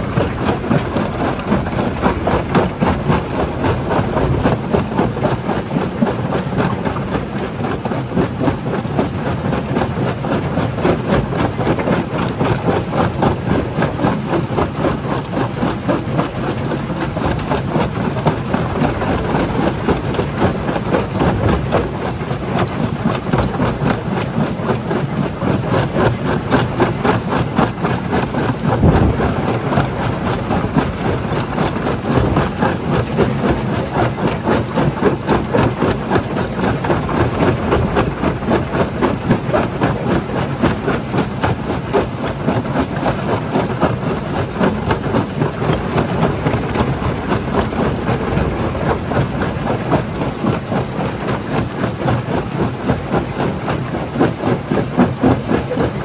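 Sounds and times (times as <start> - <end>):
jaw crusher machine drone: 0.0 - 56.0.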